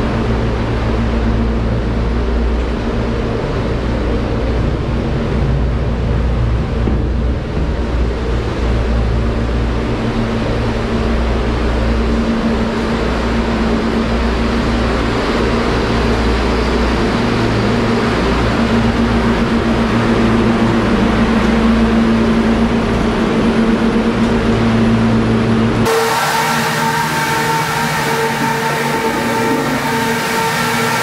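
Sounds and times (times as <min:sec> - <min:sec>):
compressors and fans humming: 0:00.0 - 0:31.0.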